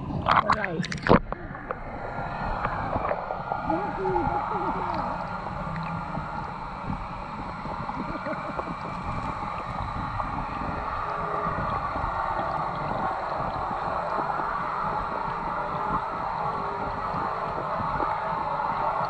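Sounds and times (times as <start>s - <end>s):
underwater bubbling: 0.0s - 19.0s
underwater low rumble: 0.0s - 19.0s.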